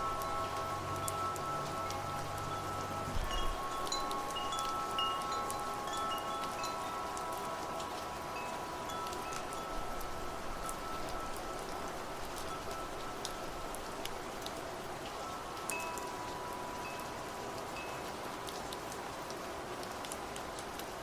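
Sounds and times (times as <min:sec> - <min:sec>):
wind chimes ringing: 0:00.0 - 0:18.2
steady rain hiss: 0:00.0 - 0:21.0.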